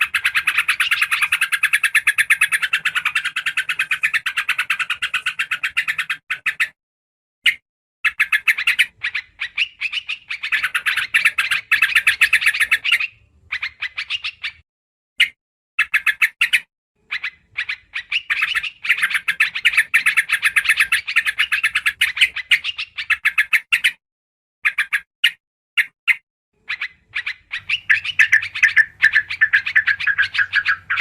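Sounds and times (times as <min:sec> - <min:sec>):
bird chattering calls: 0:00.0 - 0:06.8, 0:07.4 - 0:14.6, 0:15.2 - 0:24.0, 0:26.6 - 0:31.0.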